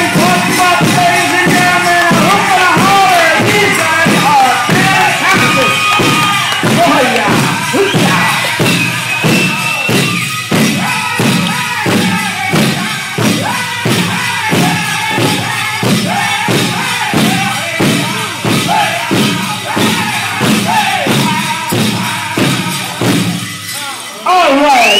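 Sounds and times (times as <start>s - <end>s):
big drum steady beat: 0.0s - 23.7s
high-pitched group singing: 0.0s - 24.2s.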